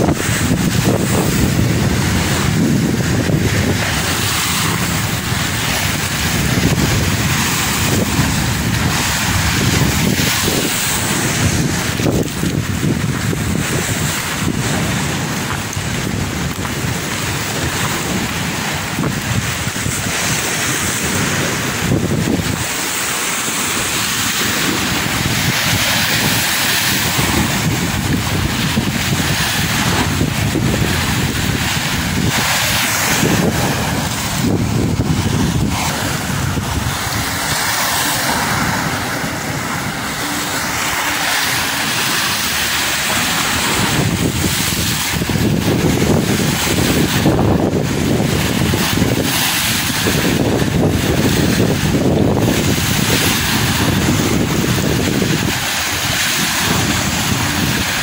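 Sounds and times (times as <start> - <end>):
sea waves breaking against seawall: 0.0 - 58.0
wind buffeting microphone: 0.0 - 58.0.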